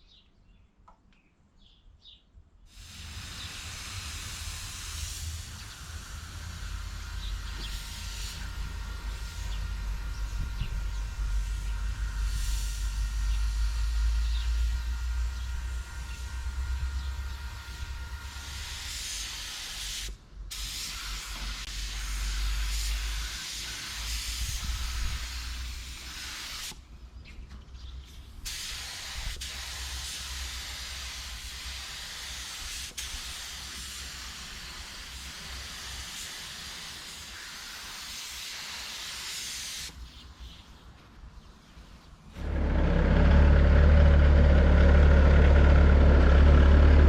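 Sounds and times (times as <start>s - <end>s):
paint spray gun hissing: 2.7s - 26.9s, 28.5s - 40.2s, 42.4s - 47.0s.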